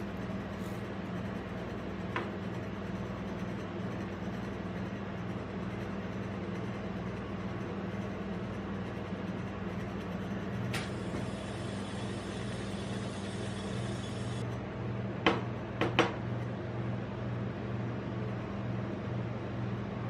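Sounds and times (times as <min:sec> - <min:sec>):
refrigerated cold plate humming: 0:00.0 - 0:20.0.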